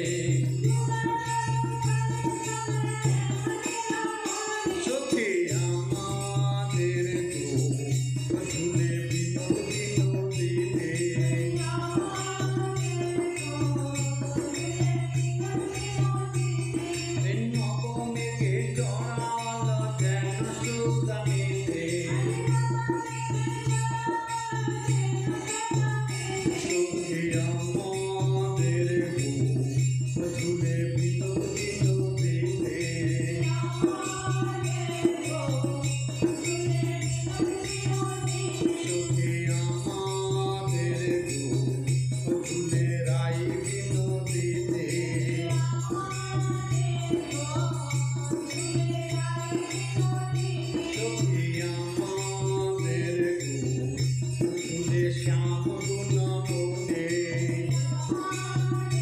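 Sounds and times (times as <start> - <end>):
jingling percussion: 0.0 - 59.0.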